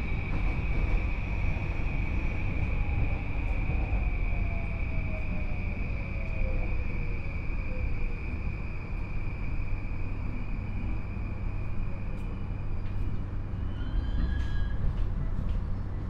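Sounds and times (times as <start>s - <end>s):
train inverter whine: 0.0s - 16.0s
train running gear rumble: 0.0s - 16.0s.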